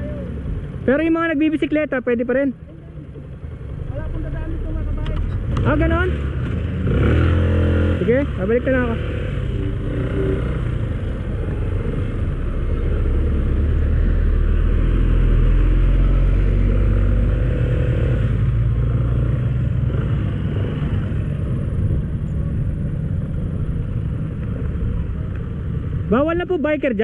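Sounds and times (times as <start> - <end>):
motorcycle engine rumble: 0.0 - 27.0
steady rushing noise: 3.3 - 27.0.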